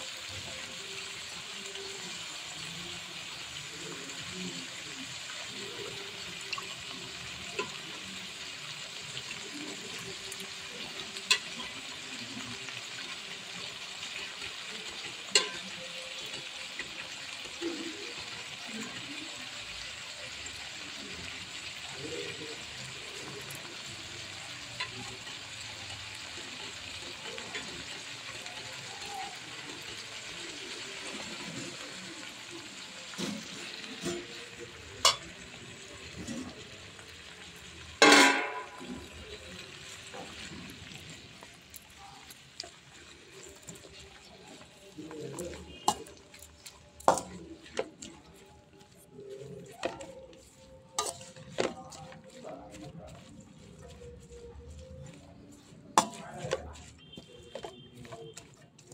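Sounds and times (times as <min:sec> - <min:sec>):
vegetables sizzling in oil: 0:00.0 - 0:58.9.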